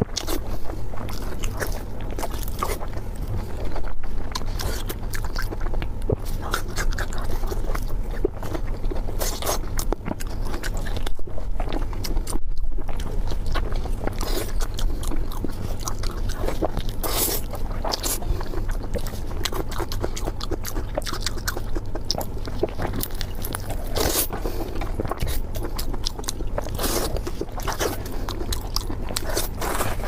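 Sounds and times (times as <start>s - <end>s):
food crunching: 0.0s - 30.0s
low steady hum: 0.0s - 30.0s
person chewing food: 0.0s - 30.0s.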